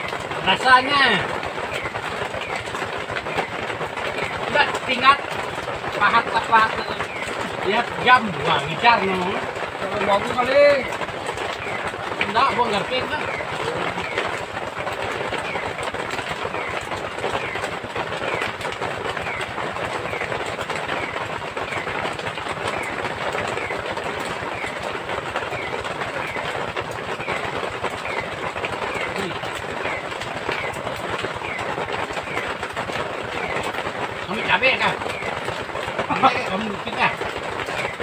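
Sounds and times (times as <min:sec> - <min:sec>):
heavy rain: 0:00.0 - 0:38.0.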